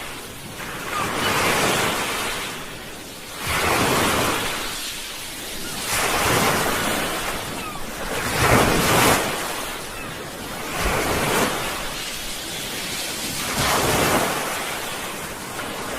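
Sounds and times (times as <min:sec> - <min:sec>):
sea waves breaking on shore: 0:00.0 - 0:15.9.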